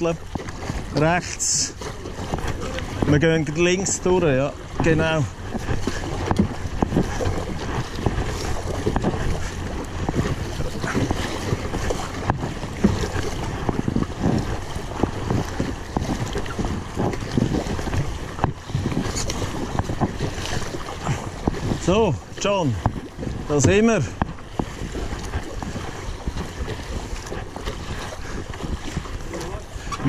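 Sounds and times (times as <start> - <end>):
paddle splashes: 0.0 - 30.0
rushing splashing water: 0.0 - 30.0
wind buffeting microphone: 0.0 - 30.0.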